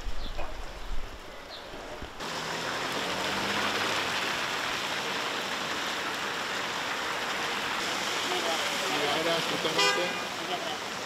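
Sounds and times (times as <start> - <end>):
heavy rain pouring: 0.6 - 11.0.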